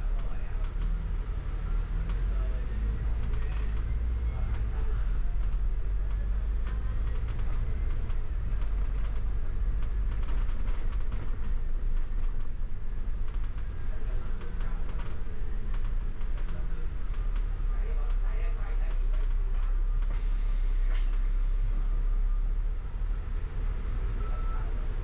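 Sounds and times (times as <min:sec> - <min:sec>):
bus body clicks and rattles: 0:00.0 - 0:01.2, 0:02.0 - 0:21.4
bus engine and road rumble: 0:00.0 - 0:25.0.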